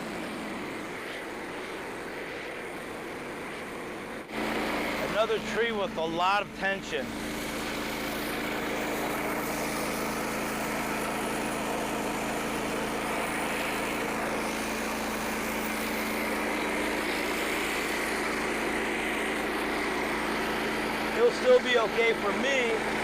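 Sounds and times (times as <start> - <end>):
gasoline engine running: 0.0 - 23.0.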